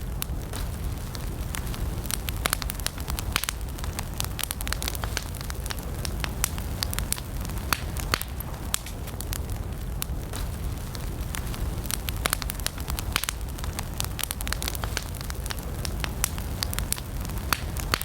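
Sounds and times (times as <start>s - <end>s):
campfire flames rumbling: 0.0s - 18.0s
wood crackling and popping: 0.0s - 18.0s.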